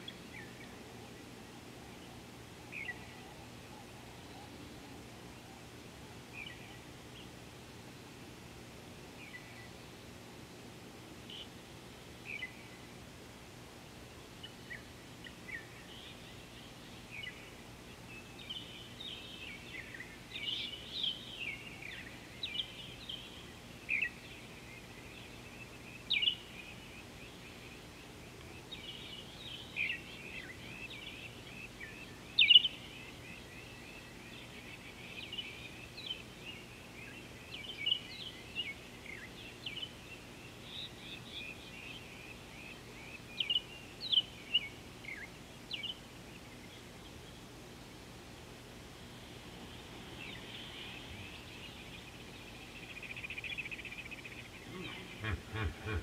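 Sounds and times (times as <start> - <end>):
wild birds chirping: 0.0 - 56.0.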